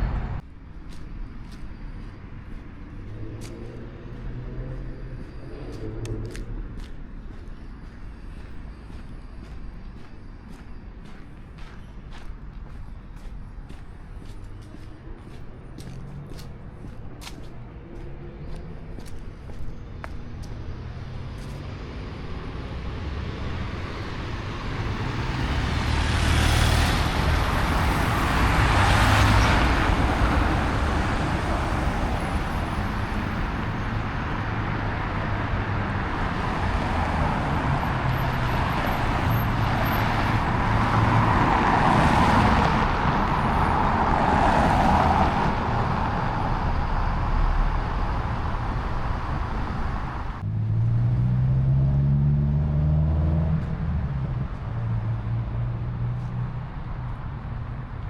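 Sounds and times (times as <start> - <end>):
cars driving past: 0.0 - 58.0
engine rumble: 0.0 - 58.0.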